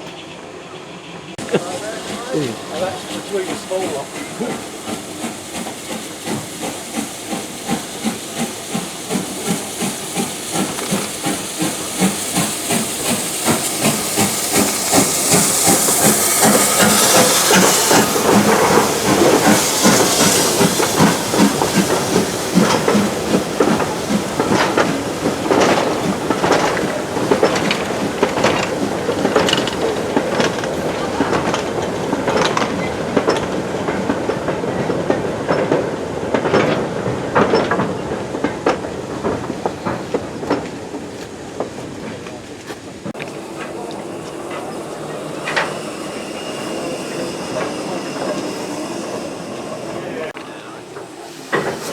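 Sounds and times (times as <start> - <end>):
steam hissing: 0.0 - 51.9
steam locomotive chuffing: 0.0 - 51.9
train wheels clicking on rails: 0.0 - 51.9.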